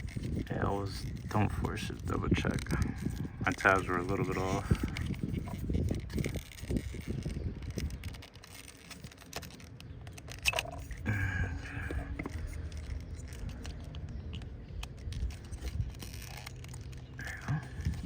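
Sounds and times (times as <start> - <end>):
plastic connectors clicking: 0.0 - 18.0.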